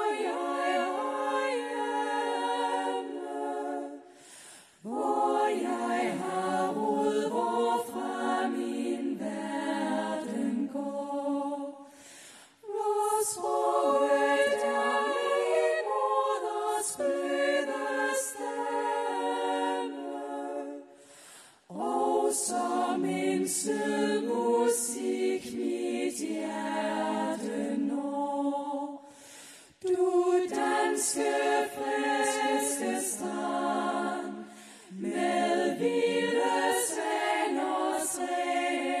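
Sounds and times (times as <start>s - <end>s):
women's choir singing a cappella: 0.0s - 39.0s.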